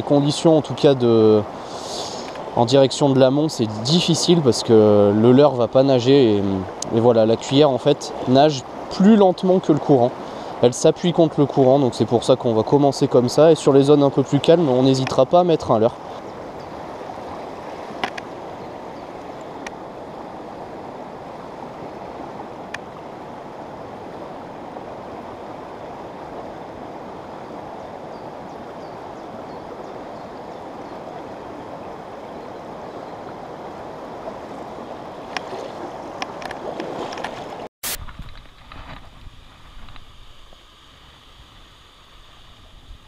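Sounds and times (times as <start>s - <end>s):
river water rushing over stones: 0.0s - 38.0s.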